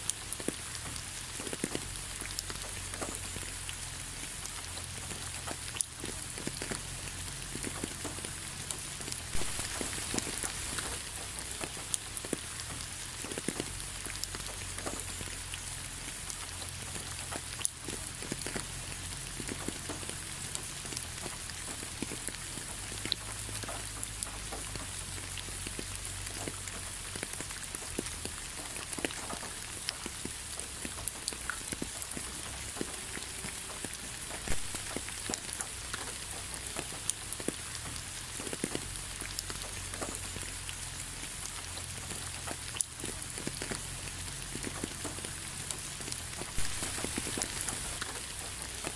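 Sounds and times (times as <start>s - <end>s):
raindrops ticking: 0.0s - 48.9s
steady rain hiss: 0.0s - 48.9s.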